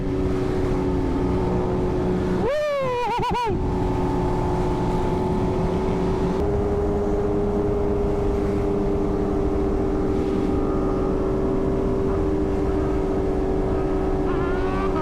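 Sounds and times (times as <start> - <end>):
wind rush: 0.0 - 15.0.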